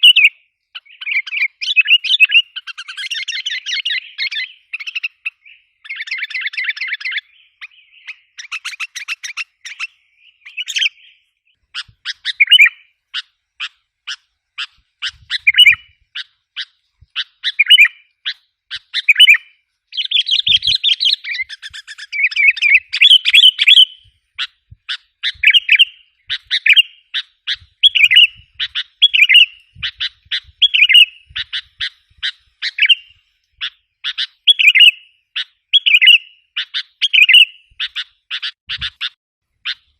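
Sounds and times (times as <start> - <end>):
bulbul calls: 0.0 - 39.9.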